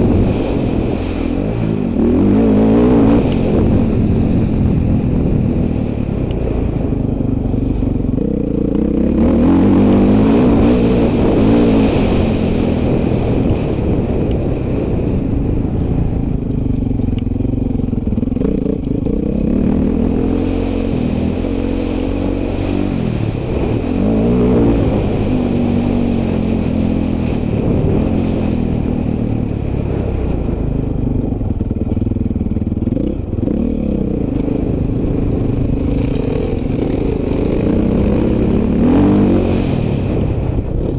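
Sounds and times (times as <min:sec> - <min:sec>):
dirt bike engine revving: 0:00.0 - 0:06.5, 0:07.6 - 0:15.1, 0:16.7 - 0:30.6, 0:31.6 - 0:40.9.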